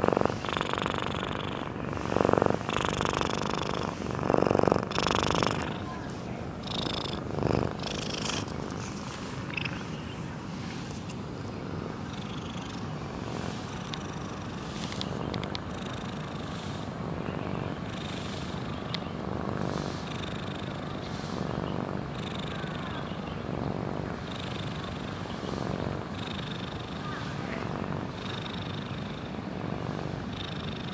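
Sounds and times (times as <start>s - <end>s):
cat snoring: 0.0s - 5.8s, 6.6s - 9.8s, 12.1s - 14.6s, 15.7s - 22.8s, 23.4s - 30.9s.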